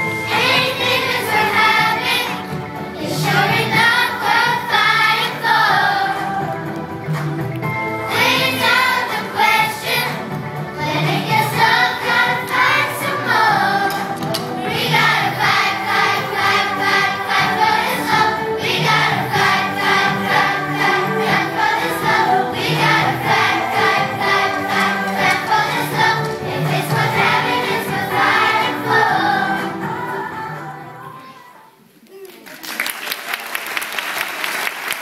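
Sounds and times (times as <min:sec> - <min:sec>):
musical accompaniment with beat: 0:00.0 - 0:30.8
children's choir singing: 0:00.0 - 0:31.8.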